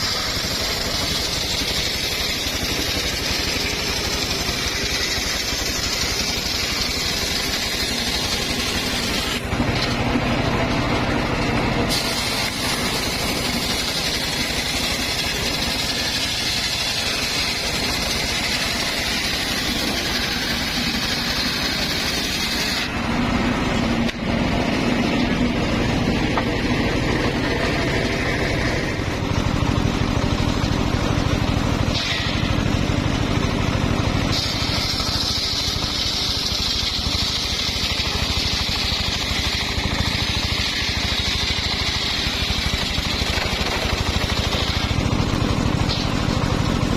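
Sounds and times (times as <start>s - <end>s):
circular saw cutting timber: 0.0s - 46.9s.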